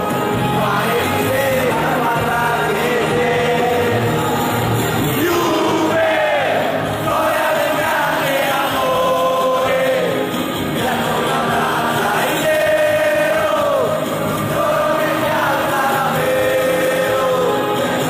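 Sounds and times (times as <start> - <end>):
group of voices singing: 0.0 - 18.0.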